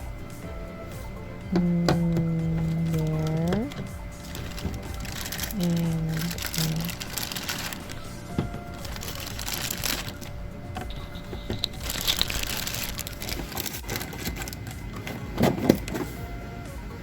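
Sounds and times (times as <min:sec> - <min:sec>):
plastic packaging crinkling: 0:01.6 - 0:16.1.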